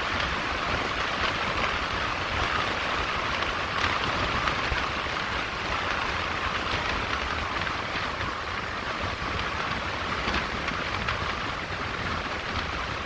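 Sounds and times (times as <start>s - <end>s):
car road and wind noise: 0.0s - 13.0s.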